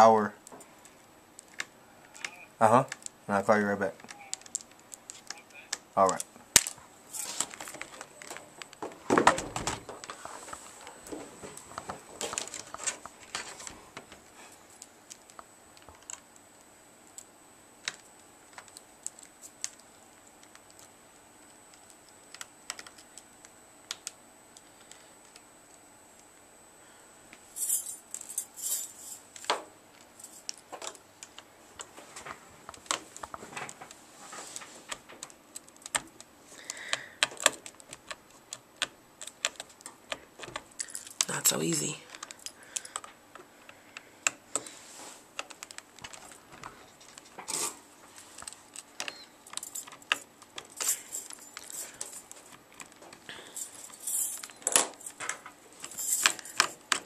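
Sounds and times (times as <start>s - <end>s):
plastic cracking: 0.4s - 3.2s, 3.8s - 26.4s, 29.2s - 41.3s, 42.0s - 57.0s.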